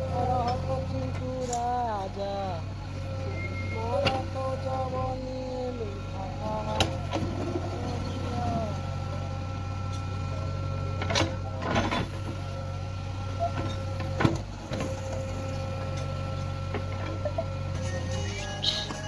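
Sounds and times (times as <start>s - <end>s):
backhoe loader engine running: 0.0s - 19.0s.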